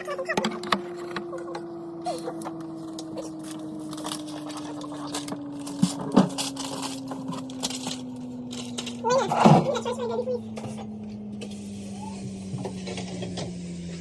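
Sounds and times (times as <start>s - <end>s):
refrigerator low hum: 0.0s - 14.0s
containers knocking and clinking: 0.3s - 11.5s.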